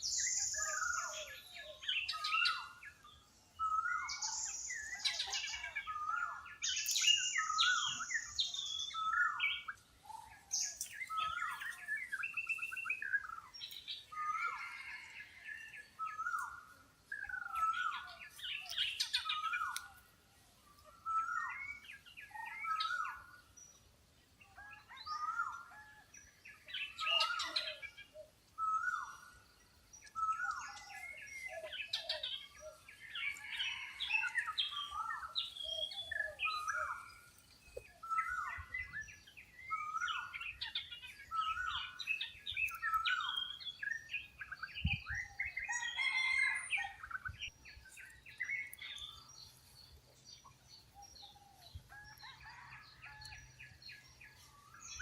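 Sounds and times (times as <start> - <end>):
birds chirping chorus: 0.0 - 55.0.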